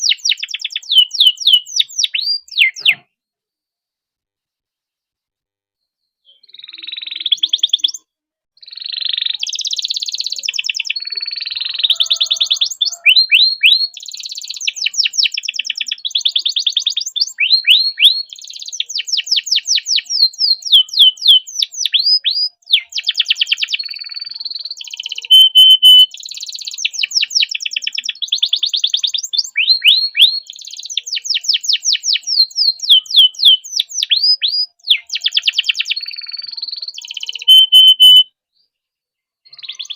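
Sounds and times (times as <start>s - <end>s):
canary singing trills: 0.0s - 3.1s, 6.2s - 38.3s, 39.5s - 39.9s.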